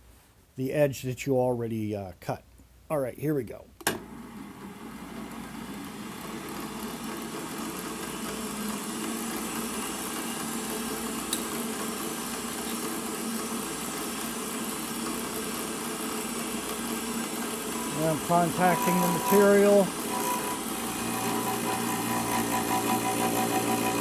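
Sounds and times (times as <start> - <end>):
milling machine motor humming: 4.0 - 24.0.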